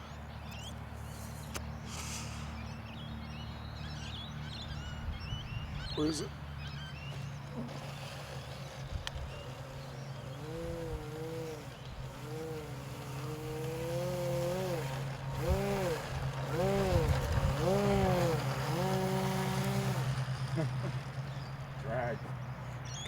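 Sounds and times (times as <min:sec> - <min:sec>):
electric motor and propeller revving: 0:00.0 - 0:23.0
steady low hum: 0:00.0 - 0:23.0.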